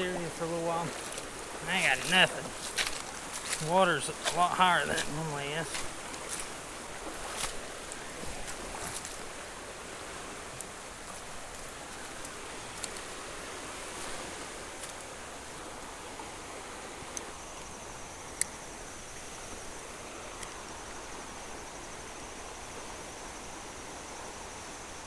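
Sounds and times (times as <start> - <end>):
faint high whine: 0.0 - 25.0
river rushing: 0.0 - 25.0.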